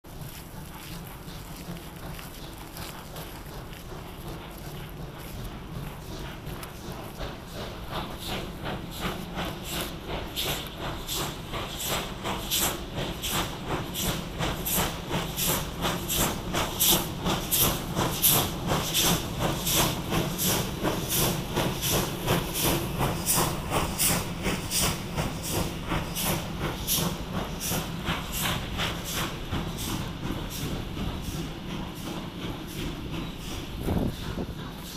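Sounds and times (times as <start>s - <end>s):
steam locomotive exhaust chuffing: 0.0s - 34.9s.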